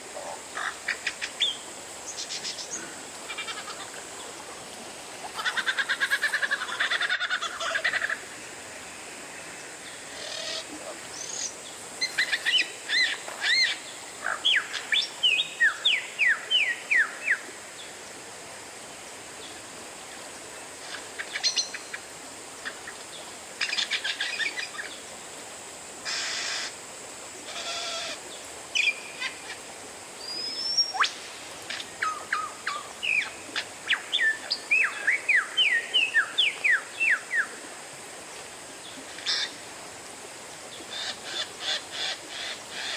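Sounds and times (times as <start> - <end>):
faint steady hiss: 0.0 - 42.9.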